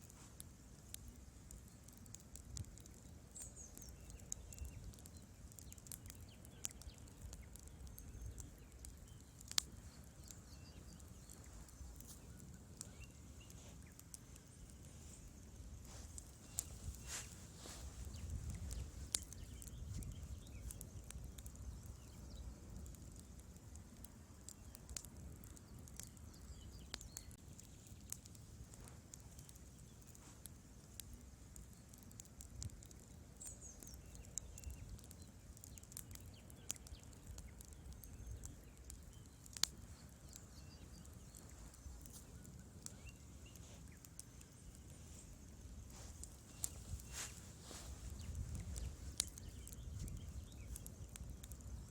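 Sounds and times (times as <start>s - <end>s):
low rumble of flames: 0.0s - 51.9s
wood fire crackling and popping: 0.0s - 51.9s.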